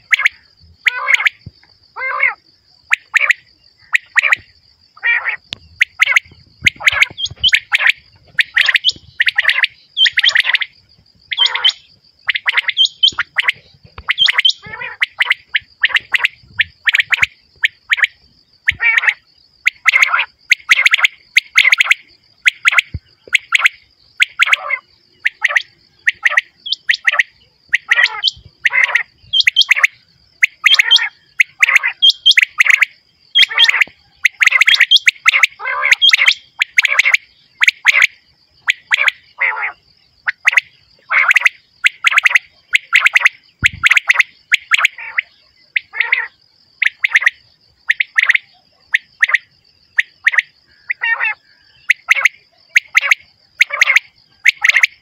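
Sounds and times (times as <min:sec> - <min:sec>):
quail calling: 0:00.0 - 0:55.0.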